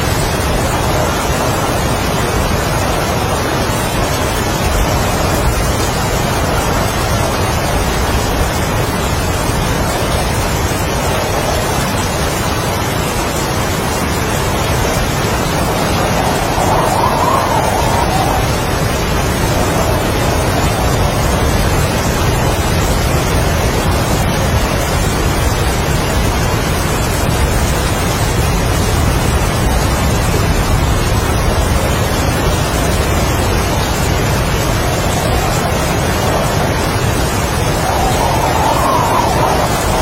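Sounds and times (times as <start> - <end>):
heavy rain: 0.0 - 40.0
strong wind: 0.0 - 40.0.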